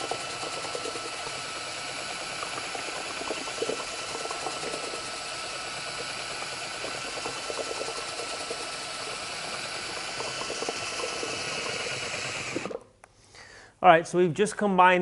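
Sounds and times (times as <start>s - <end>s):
drill motor whining: 0.0s - 12.8s
paddle mixer churning in bucket: 0.0s - 12.8s.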